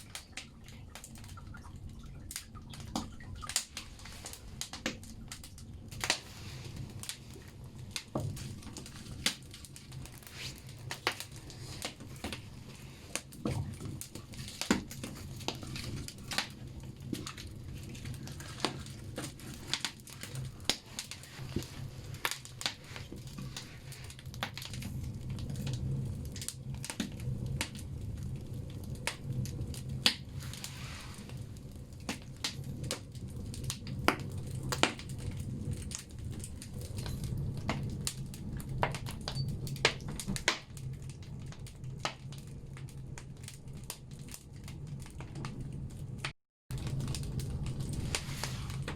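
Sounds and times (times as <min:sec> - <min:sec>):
firewood crackling and popping: 0:00.0 - 0:48.9
stove low rumble: 0:00.0 - 0:48.9.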